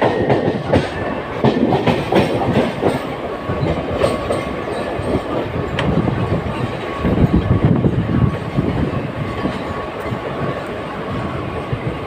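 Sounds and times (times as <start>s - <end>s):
train running rush: 0.0s - 12.0s
train wheels clattering over rail joints: 0.0s - 12.0s.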